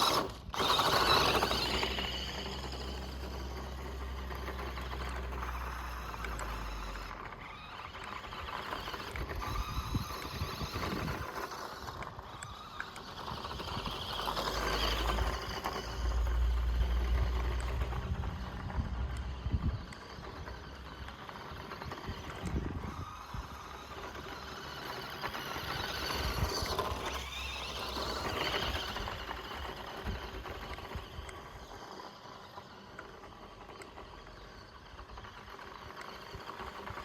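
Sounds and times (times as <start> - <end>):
rc car motor whirring: 0.0 - 37.0
tyres scrabbling over dirt: 0.0 - 37.0.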